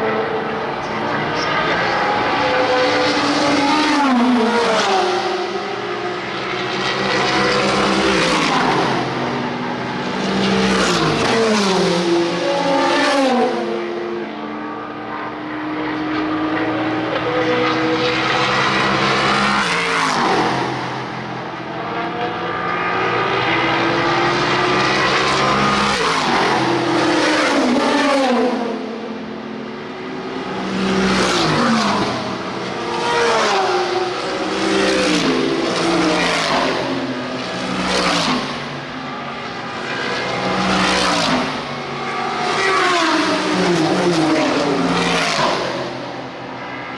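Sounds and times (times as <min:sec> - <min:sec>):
race cars passing at speed: 0:00.0 - 0:46.9.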